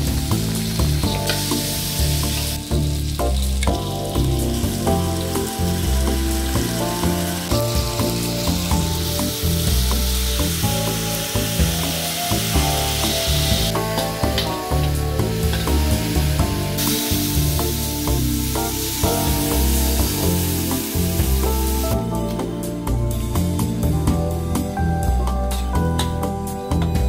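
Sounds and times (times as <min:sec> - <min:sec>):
vegetables sizzling in hot oil: 0:00.0 - 0:22.0
background music with beat and bass: 0:00.0 - 0:27.0.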